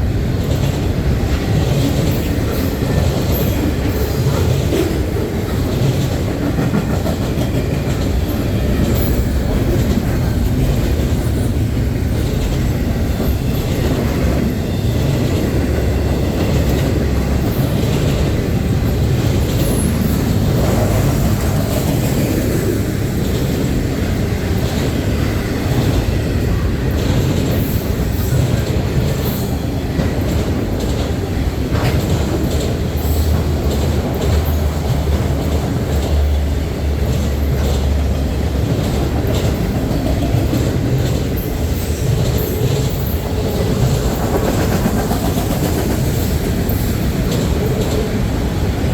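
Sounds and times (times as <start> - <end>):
freight train rumbling past: 0.0 - 48.9
wheels clacking over rails: 0.0 - 48.9.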